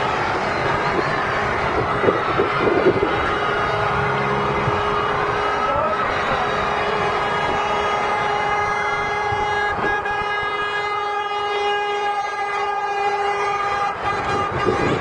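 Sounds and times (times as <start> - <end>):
vehicle horns blasting: 0.0 - 15.0
vehicles rolling past: 0.0 - 15.0.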